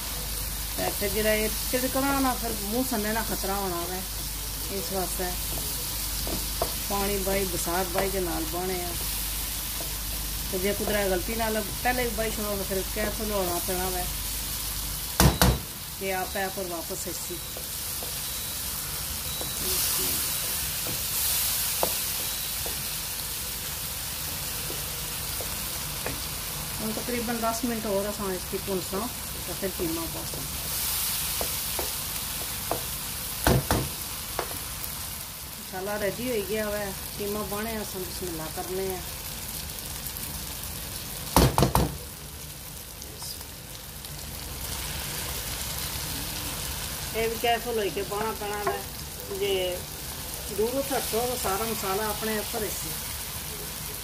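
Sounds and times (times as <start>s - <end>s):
masala sizzling in a pot: 0.0s - 54.0s.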